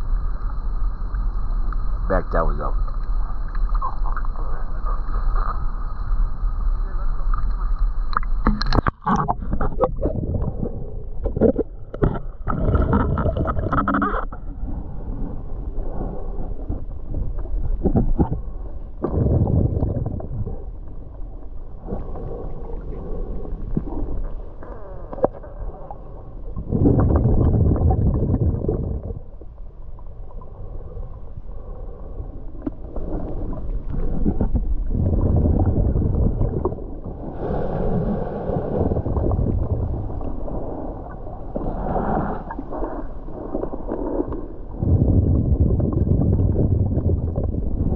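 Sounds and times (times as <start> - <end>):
muffled underwater rushing and gurgling: 0.0 - 47.9.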